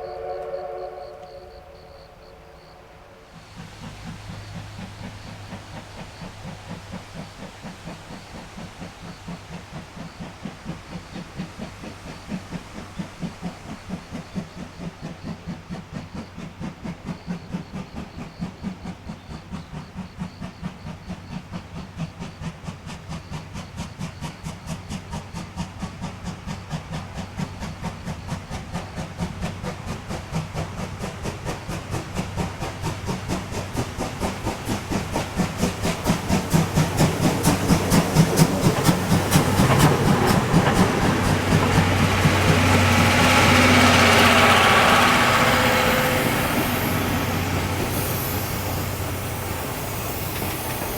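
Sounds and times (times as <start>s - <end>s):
steam locomotive chuffing: 0.0s - 50.9s.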